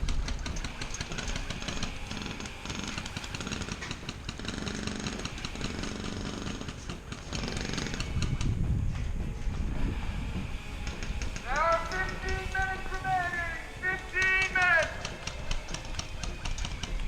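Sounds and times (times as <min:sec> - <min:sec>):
airsoft guns firing bursts: 0:00.0 - 0:08.6, 0:10.7 - 0:17.0.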